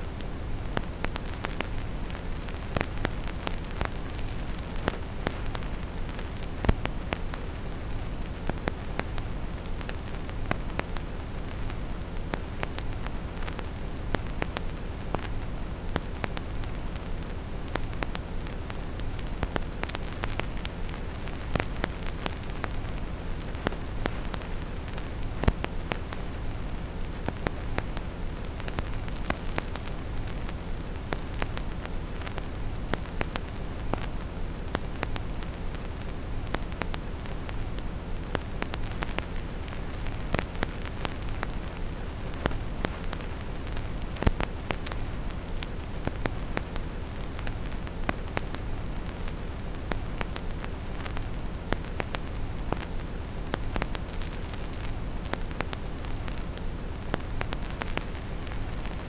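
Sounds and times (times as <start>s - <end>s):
deep brown noise: 0.0s - 59.0s
vinyl crackle clicks and pops: 0.0s - 59.0s.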